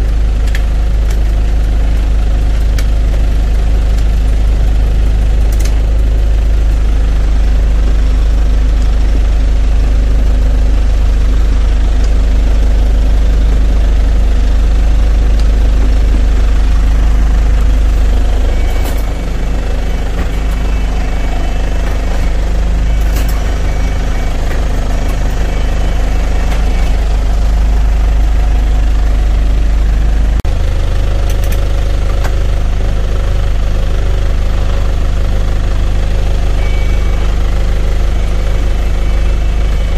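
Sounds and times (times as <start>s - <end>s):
bus engine idling: 0.0s - 39.9s.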